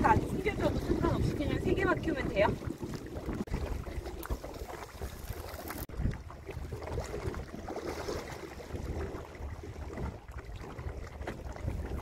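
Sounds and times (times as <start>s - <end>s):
choppy sea slapping boat hull: 0.0s - 12.0s
wind buffeting microphone: 0.0s - 12.0s.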